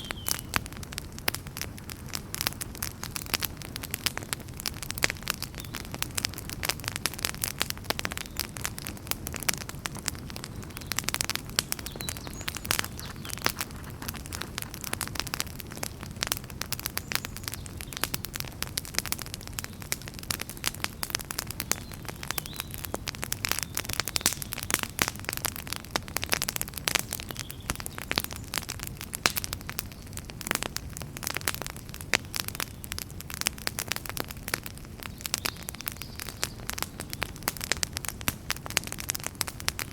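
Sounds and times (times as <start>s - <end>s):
wood fire crackling: 0.0s - 39.9s
low rumble of flames: 0.1s - 39.9s.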